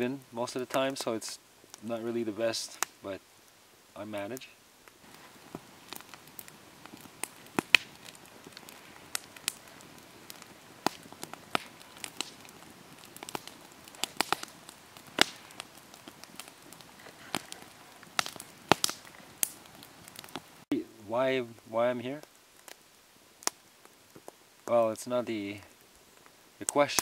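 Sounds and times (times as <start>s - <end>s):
campfire crackling and popping: 0.0s - 27.0s
faint hiss: 0.0s - 27.0s.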